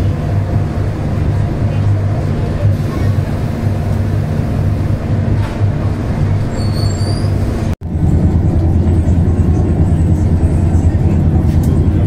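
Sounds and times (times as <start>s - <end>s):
train coach hum and rumble: 0.0s - 12.0s.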